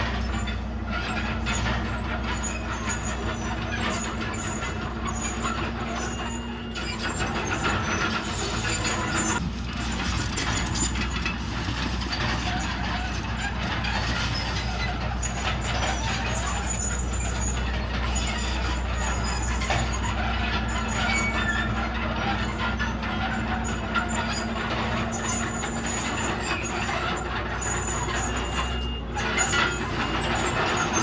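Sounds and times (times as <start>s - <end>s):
bulldozer diesel engine running: 0.0s - 31.0s
constant clatter: 0.0s - 31.0s.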